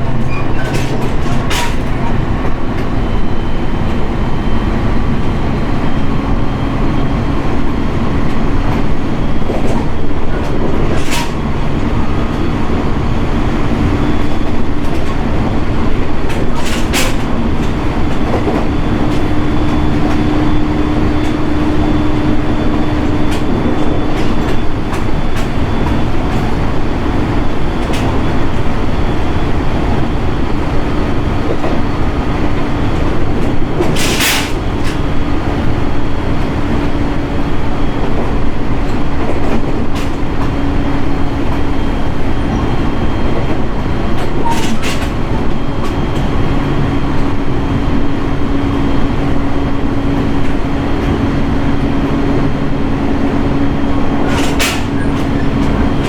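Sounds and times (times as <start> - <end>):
low train hum: 0.0 - 56.0
train wheels rumbling on rail: 0.0 - 56.0.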